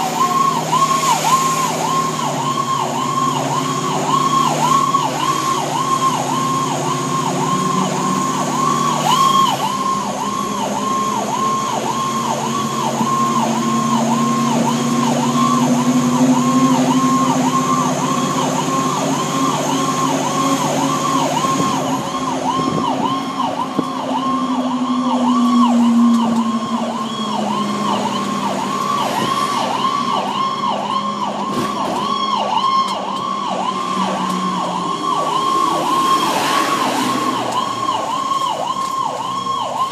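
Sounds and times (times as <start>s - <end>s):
electronic siren wailing: 0.0s - 39.9s
truck engine running: 0.0s - 39.9s.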